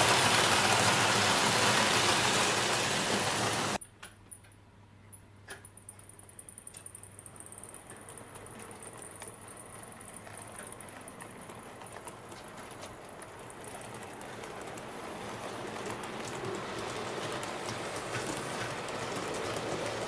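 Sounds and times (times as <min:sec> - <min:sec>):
model train wheels rattling on rail: 0:00.0 - 0:03.8, 0:06.7 - 0:20.0.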